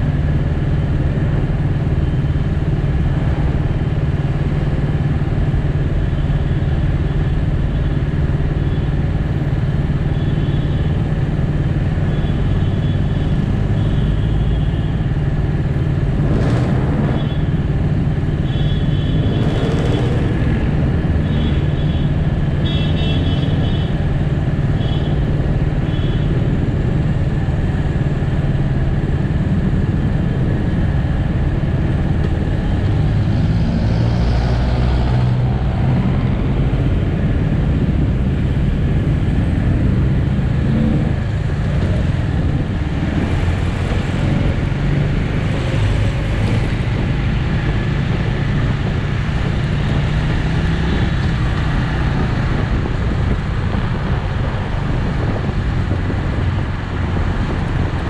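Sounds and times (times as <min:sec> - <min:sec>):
road traffic noise: 0:00.0 - 0:58.0
vehicles passing: 0:00.0 - 0:58.0.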